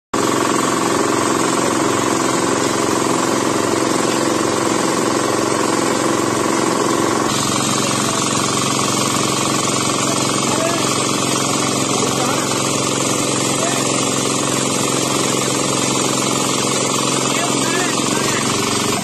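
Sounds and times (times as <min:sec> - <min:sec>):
engine running loudly: 0:00.2 - 0:19.0.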